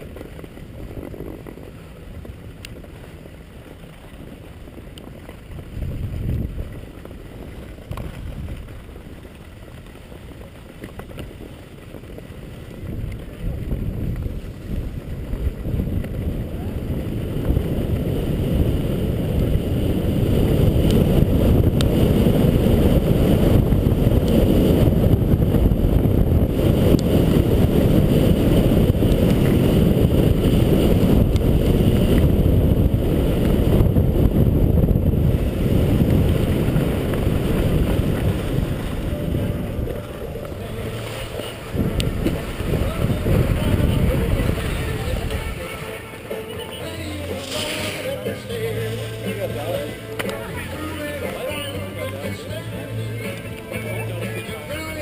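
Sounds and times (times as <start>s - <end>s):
skis sliding over snow: 0.0s - 55.0s
wind rumbling on microphone: 0.0s - 55.0s.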